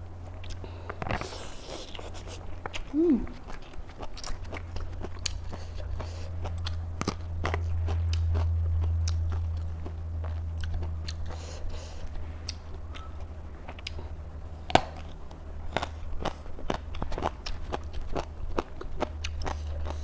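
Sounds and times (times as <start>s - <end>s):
chewing raw vegetables: 0.0s - 20.0s
steady low hum: 0.0s - 20.0s.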